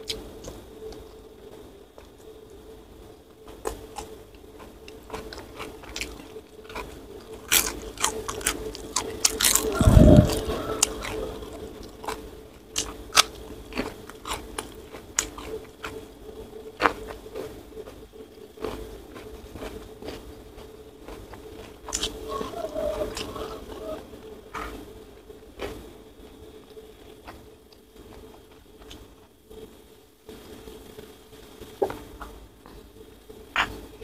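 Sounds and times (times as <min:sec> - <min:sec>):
chewing with crunches: 0:00.0 - 0:34.0.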